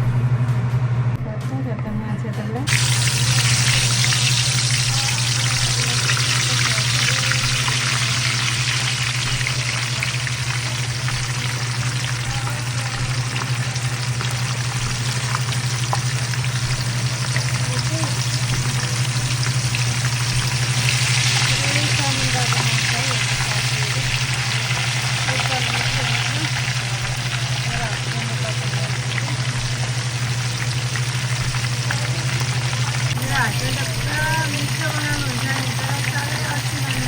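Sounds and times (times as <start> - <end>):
steady low hum: 0.0 - 37.0
food sizzling in hot oil: 2.7 - 37.0.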